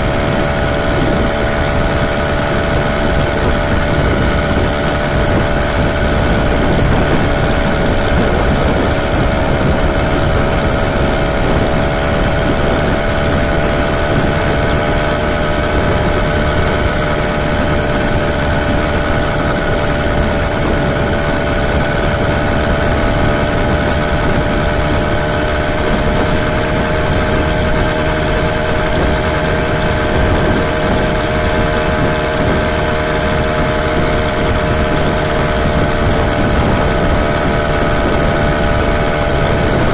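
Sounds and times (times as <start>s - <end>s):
small engine running: 0.0s - 39.9s
wind on microphone: 0.0s - 39.9s.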